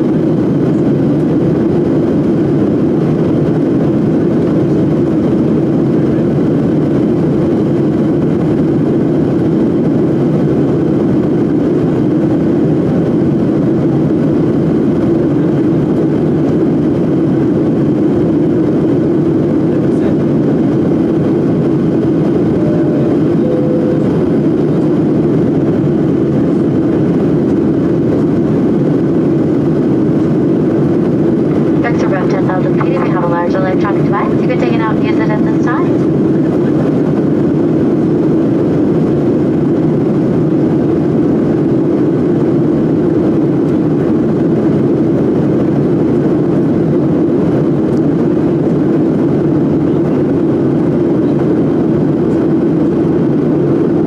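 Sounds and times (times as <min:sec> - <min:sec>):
airliner cabin noise: 0:00.0 - 0:54.0.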